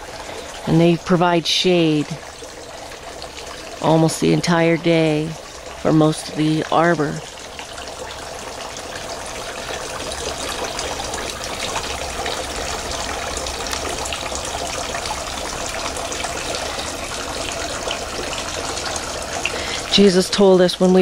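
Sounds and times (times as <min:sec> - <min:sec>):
fountain water splashing: 0:00.0 - 0:21.0.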